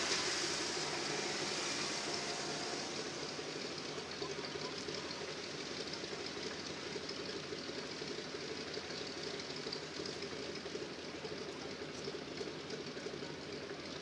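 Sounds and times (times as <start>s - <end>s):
radial aircraft engine idling: 0.0s - 14.0s.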